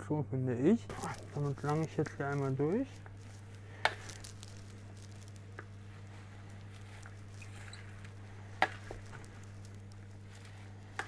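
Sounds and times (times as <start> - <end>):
low electrical hum: 0.0 - 11.0
salad rustling and squishing: 1.0 - 11.0.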